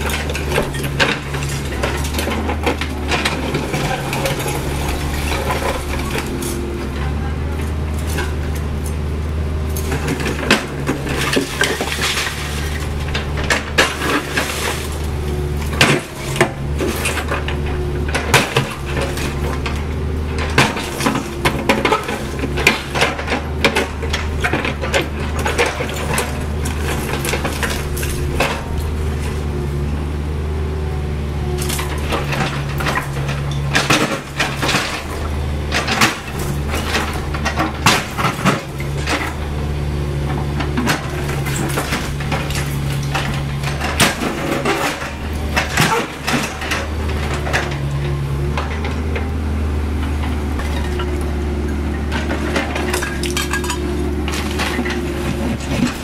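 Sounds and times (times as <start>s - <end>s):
bucket scooping rubble: 0.0s - 8.8s, 9.6s - 29.7s, 31.6s - 56.0s
debris clinking and clattering: 0.0s - 9.0s, 9.7s - 29.5s, 31.6s - 39.5s, 40.2s - 49.3s, 50.0s - 56.0s
diesel engine running: 0.0s - 56.0s.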